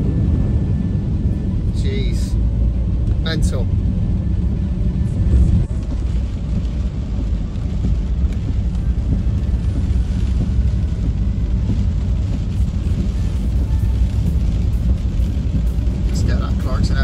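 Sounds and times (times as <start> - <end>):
van engine and road rumble: 0.0 - 17.0.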